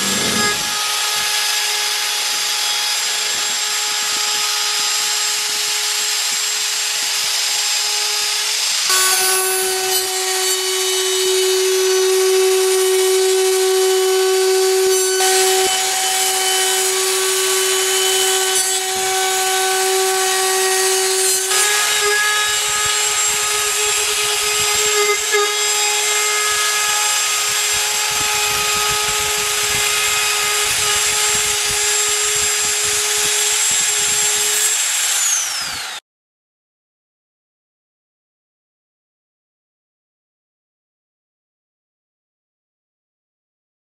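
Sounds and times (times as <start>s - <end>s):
router whining cutting wood: 0.0s - 36.0s.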